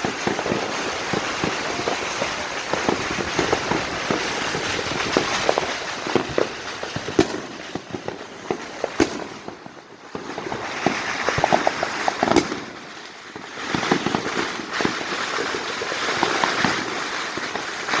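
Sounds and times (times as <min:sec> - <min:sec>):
firecrackers crackling: 0:00.0 - 0:18.0
loud firework bangs: 0:00.0 - 0:18.0.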